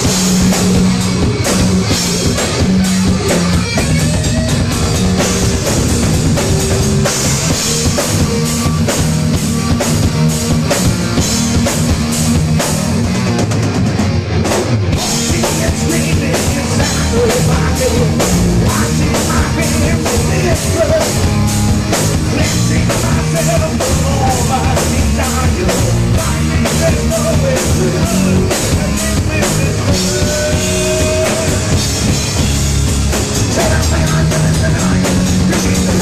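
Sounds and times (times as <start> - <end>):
heavy metal band playing: 0.0 - 36.0.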